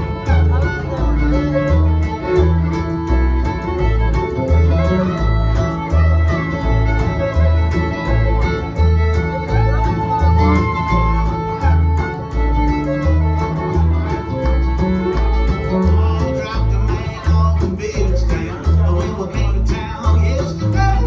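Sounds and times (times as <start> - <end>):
fiddle: 0.0 - 21.0
guitar: 0.0 - 21.0
steady bass: 0.0 - 21.0.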